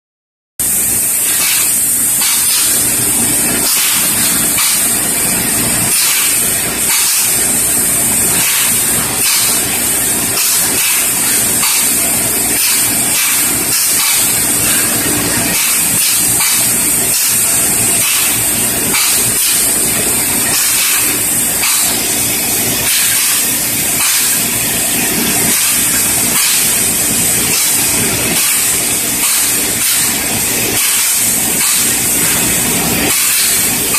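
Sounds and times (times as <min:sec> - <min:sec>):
paint spray gun hissing: 0:00.6 - 0:33.9.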